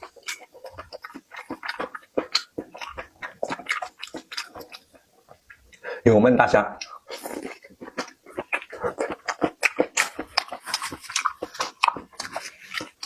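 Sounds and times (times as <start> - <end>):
wet chewing and biting: 0.0 - 5.8, 6.8 - 13.0.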